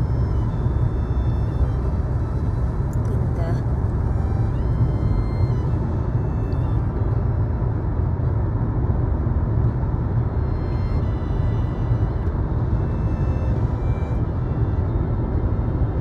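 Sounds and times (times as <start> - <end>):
car road rumble from inside: 0.0 - 16.0.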